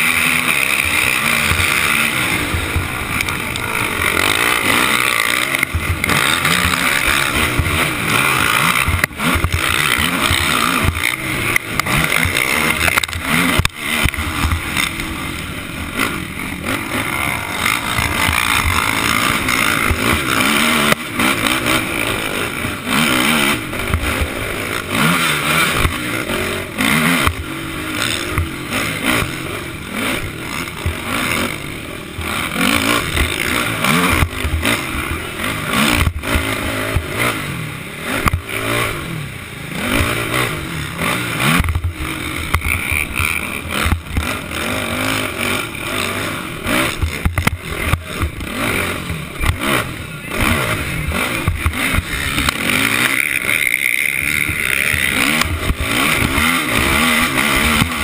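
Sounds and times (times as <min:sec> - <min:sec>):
quad engine revving: 0:00.0 - 0:58.0
rushing noise: 0:00.0 - 0:58.0.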